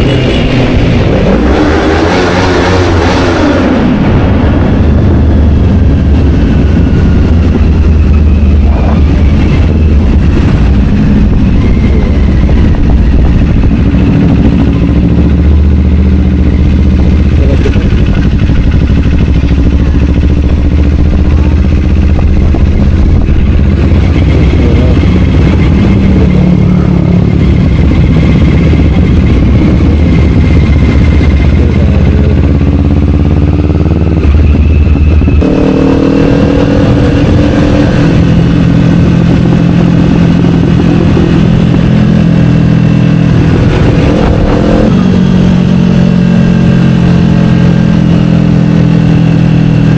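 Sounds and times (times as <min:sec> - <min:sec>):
motorcycle engine exhaust rumble: 0:00.0 - 0:49.9.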